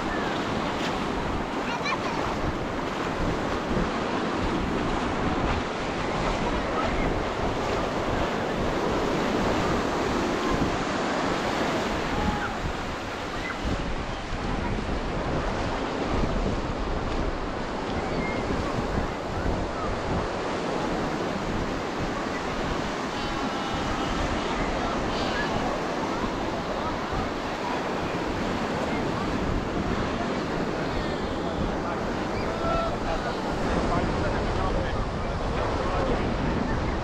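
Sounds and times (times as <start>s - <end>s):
crowd chatter: 0.0s - 37.0s
ocean surf: 0.0s - 37.0s
wind buffeting microphone: 0.0s - 37.0s.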